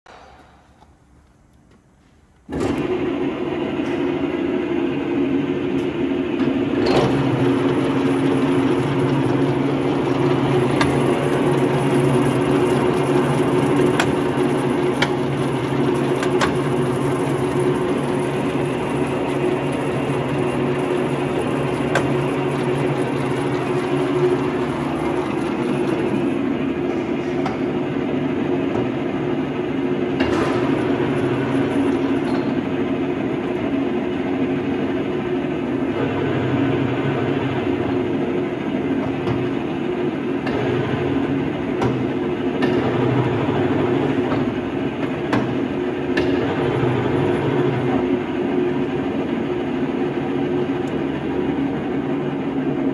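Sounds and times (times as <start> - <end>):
lathe running with mechanical whir: 2.5 - 52.9.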